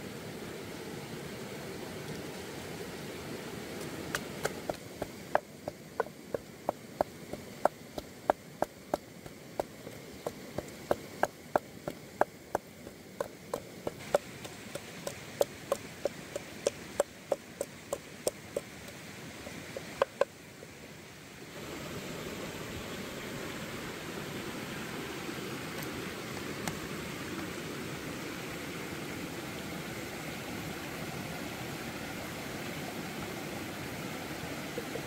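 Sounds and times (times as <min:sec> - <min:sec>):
steady low hiss: 0:00.0 - 0:35.0.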